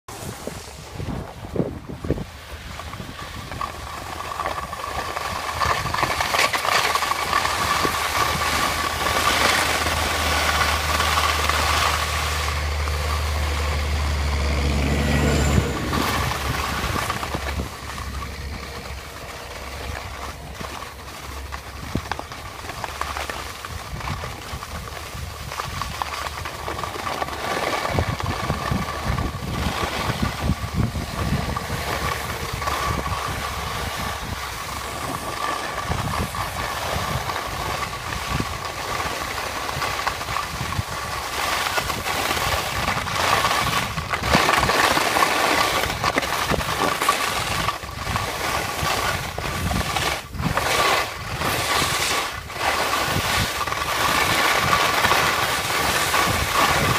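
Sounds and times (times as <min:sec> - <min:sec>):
skis scraping over snow: 0:00.1 - 0:56.9
wind buffeting microphone: 0:00.1 - 0:56.9.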